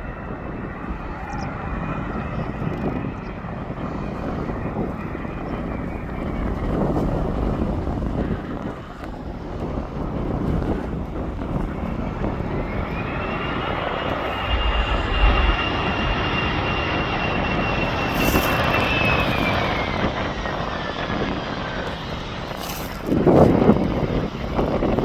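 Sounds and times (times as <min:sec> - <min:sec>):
aircraft engines passing: 0:00.0 - 0:25.0
wind buffeting microphone: 0:00.0 - 0:25.0.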